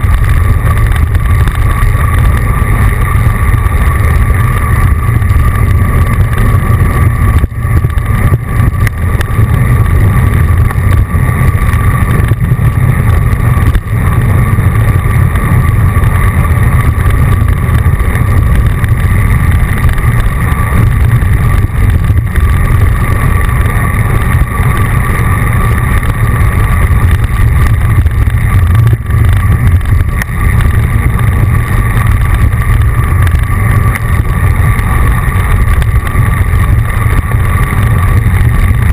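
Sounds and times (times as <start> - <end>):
road noise: 0.0 - 38.9
wind rumble on microphone: 0.0 - 38.9.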